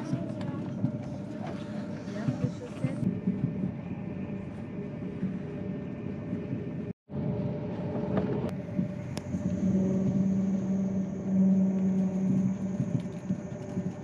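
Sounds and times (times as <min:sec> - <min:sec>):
steady hum: 0:00.0 - 0:14.0
train running rumble: 0:00.0 - 0:14.0.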